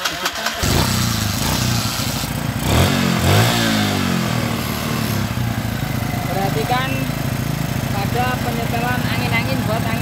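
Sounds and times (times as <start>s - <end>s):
motorcycle engine revving: 0.0s - 10.0s
motorcycle engine running: 0.4s - 10.0s.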